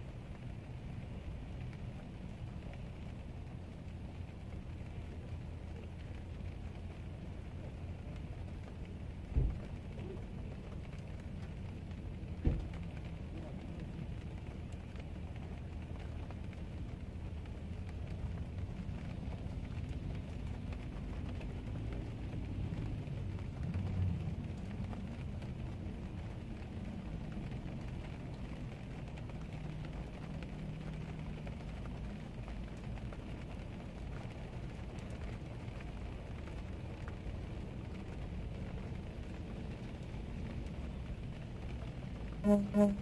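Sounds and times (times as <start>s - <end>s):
vehicle low rumble: 0.0s - 43.0s.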